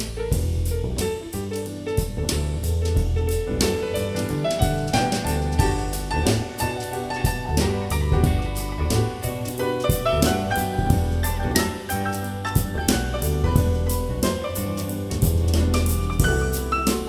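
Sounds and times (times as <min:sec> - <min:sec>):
deep bass line: 0:00.0 - 0:17.0
drum kit steady beat: 0:00.0 - 0:17.0
piano chords: 0:00.0 - 0:17.0.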